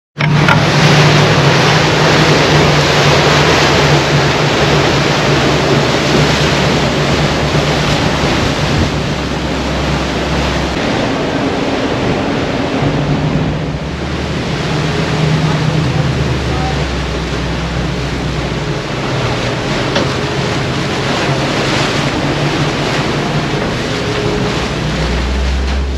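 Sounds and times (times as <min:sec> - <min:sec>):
low boat engine drone: 0:00.2 - 0:25.9
rushing wake water: 0:00.2 - 0:25.9
wind: 0:00.2 - 0:25.9.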